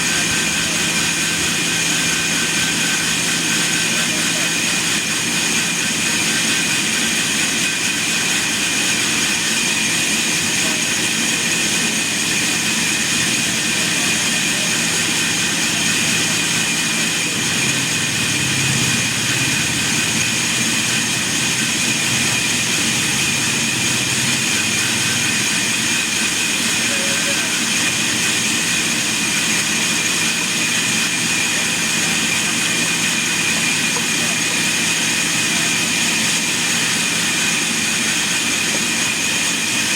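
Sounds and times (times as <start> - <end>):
high-pitched machine whines: 0.0 - 39.9
sawmill machinery drone: 0.0 - 39.9.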